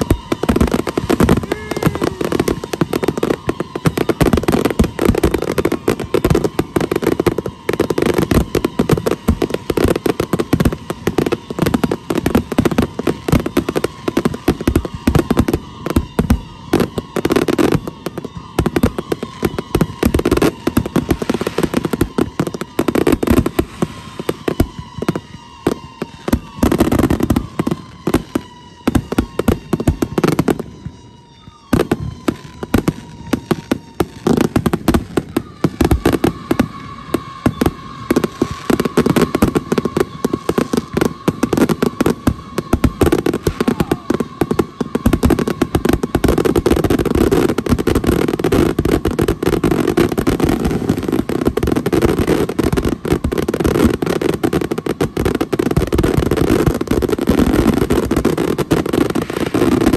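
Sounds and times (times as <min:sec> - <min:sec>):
fireworks bangs and crackling: 0:00.0 - 0:59.9
high whistle-like tone: 0:00.0 - 0:59.9.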